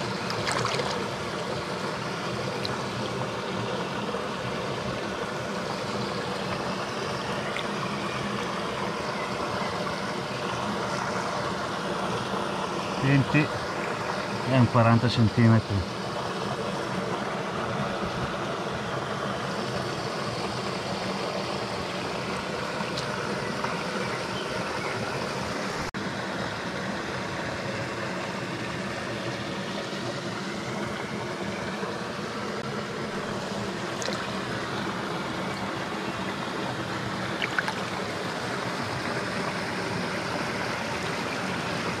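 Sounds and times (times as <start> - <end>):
stream rushing over stones: 0.0 - 42.0.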